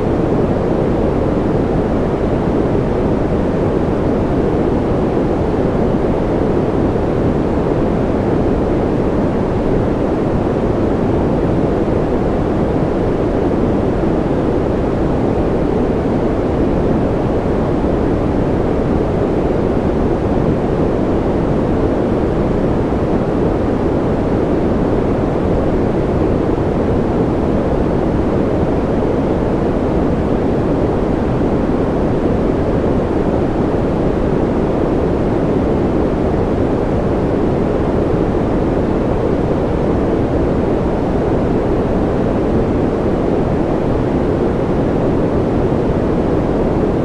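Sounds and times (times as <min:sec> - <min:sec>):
white noise hiss: 0:00.0 - 0:47.0.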